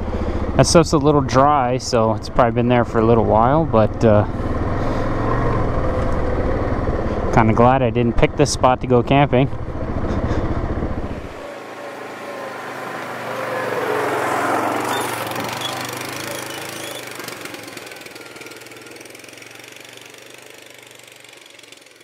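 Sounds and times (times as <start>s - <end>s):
atv engine driving past: 0.0s - 22.0s.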